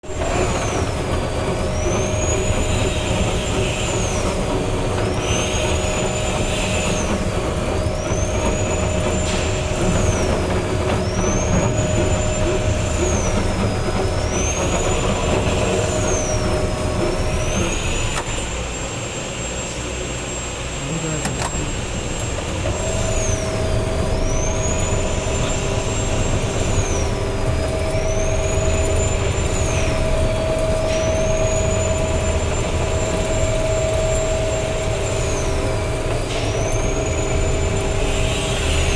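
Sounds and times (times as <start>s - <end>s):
machinery whine dipping in pitch: 0.0s - 38.9s
steady machine hum: 0.0s - 38.9s.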